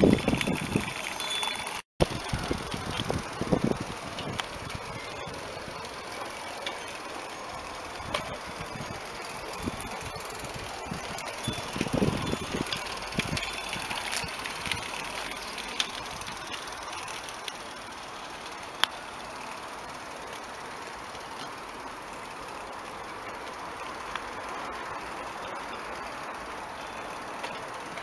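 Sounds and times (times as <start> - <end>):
low rumbles: 2.0 - 25.2.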